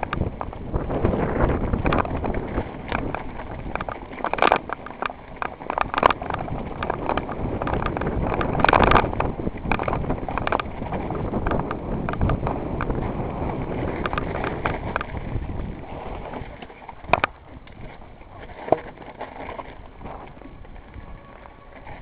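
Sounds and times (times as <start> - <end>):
mountain bike rattling over rocks: 0.0 - 22.0
tyres crunching on loose stone: 0.0 - 22.0.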